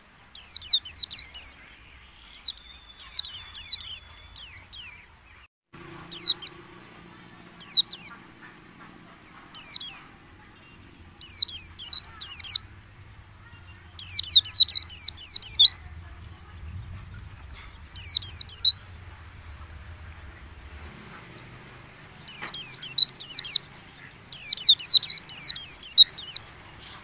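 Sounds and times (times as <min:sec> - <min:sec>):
bird chirping high notes: 0:00.4 - 0:27.0.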